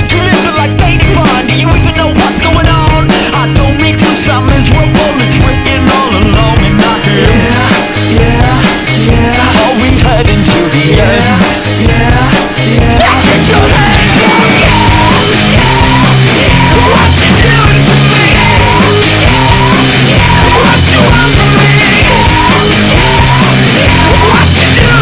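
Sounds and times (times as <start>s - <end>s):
music with steady beat: 0.0s - 25.0s.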